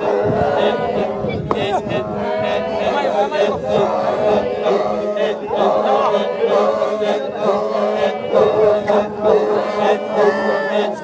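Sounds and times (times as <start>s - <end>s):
low vocal drone: 0.0s - 11.0s
men chanting together: 0.0s - 11.0s.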